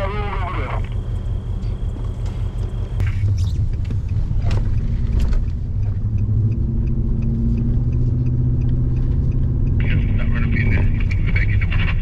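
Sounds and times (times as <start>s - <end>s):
steady low hum: 0.0s - 12.0s
truck engine rumbling: 0.0s - 12.0s.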